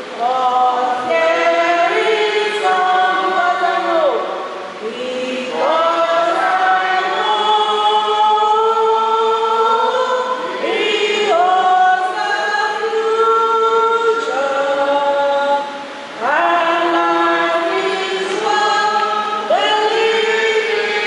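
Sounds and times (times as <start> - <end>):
choir singing long held notes: 0.0 - 21.0.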